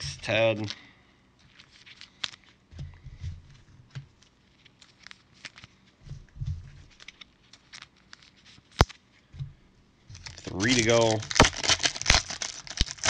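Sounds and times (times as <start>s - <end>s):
cards and packaging handled: 1.4s - 9.5s, 10.1s - 13.0s.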